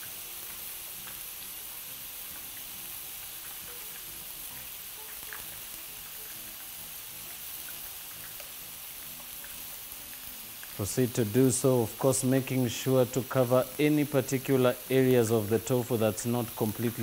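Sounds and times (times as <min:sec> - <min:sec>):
tofu deep-frying in oil: 0:00.0 - 0:17.0.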